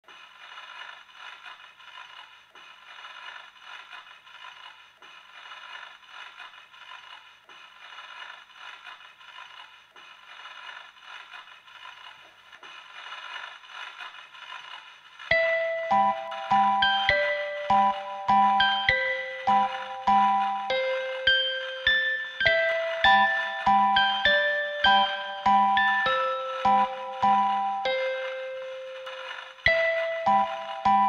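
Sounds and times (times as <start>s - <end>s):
crackling hissing noise: 0.0s - 31.0s
thin steady tones: 1.1s - 31.0s.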